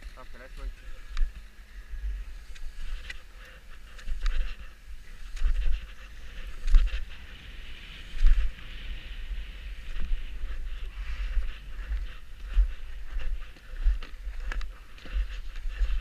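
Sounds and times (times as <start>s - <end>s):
wind buffeting microphone: 0.6s - 16.0s.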